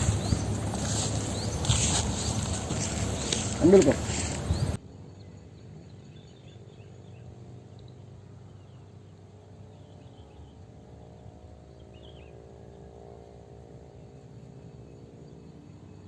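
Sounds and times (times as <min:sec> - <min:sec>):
low outdoor background: 0:00.0 - 0:16.0.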